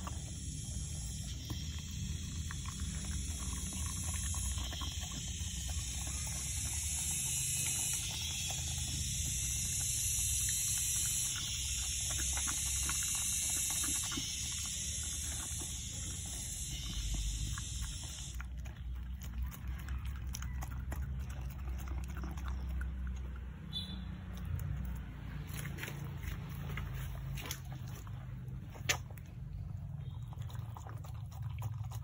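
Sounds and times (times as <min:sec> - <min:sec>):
dog chewing wetly: 0:00.0 - 0:32.0.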